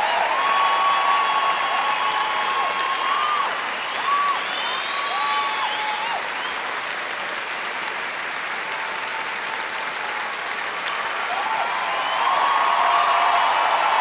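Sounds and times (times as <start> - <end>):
audience applauding: 0.0 - 14.0
audience cheering: 0.0 - 14.0.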